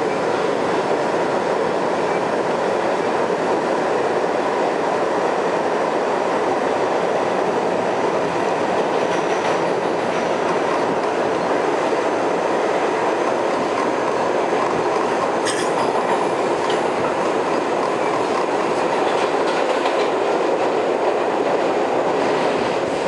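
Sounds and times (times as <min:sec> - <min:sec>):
subway car wheels rumbling on rails: 0:00.0 - 0:23.0.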